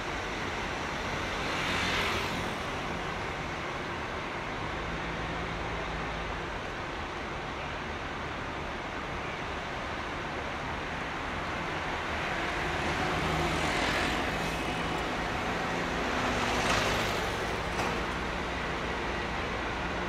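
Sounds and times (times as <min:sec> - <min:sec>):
heavy vehicle engine hum: 0:00.0 - 0:20.0.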